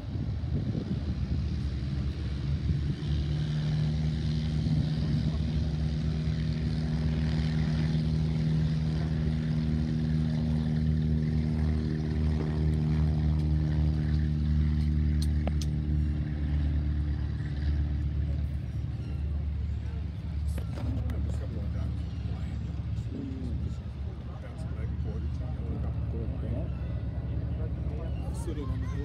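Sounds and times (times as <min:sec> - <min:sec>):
propeller airplane engine drone: 0:00.0 - 0:29.0.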